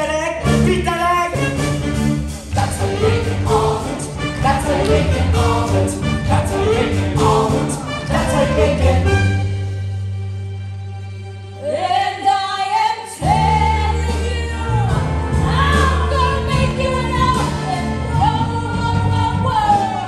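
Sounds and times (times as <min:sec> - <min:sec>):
musical accompaniment: 0:00.0 - 0:20.0.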